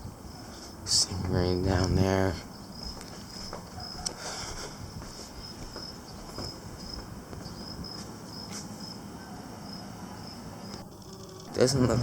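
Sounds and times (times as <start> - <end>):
crickets chirping: 0.0 - 12.0
faint outdoor background noise: 0.0 - 12.0.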